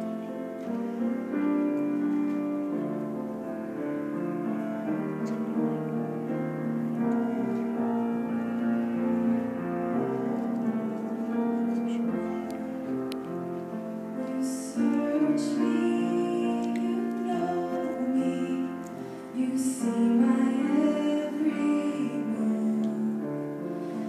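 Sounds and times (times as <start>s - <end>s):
piano playing held chords: 0.0s - 24.0s.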